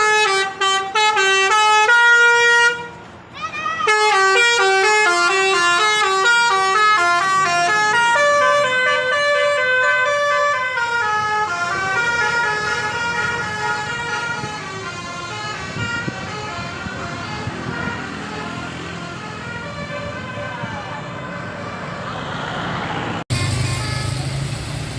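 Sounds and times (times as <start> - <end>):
bus horn playing a melody: 0.0 - 3.1, 3.8 - 21.6, 23.4 - 24.6
engine and road noise: 0.0 - 24.9.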